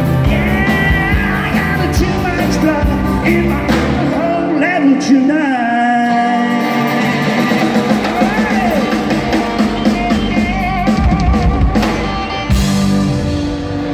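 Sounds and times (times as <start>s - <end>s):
drum kit: 0.0s - 5.1s, 6.1s - 13.9s
guitars: 0.0s - 13.9s
live country-rock band: 0.0s - 13.9s.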